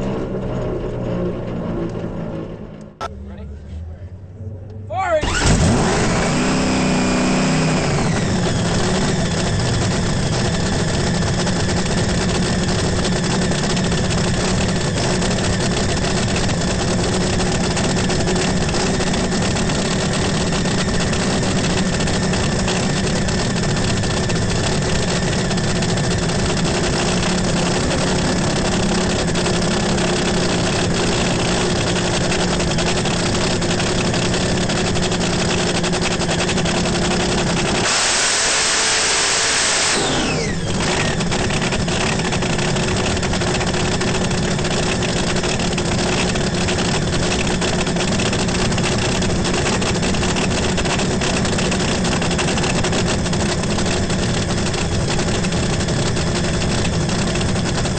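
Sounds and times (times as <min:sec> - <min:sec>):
dragster engine idling: 0:00.0 - 0:57.9.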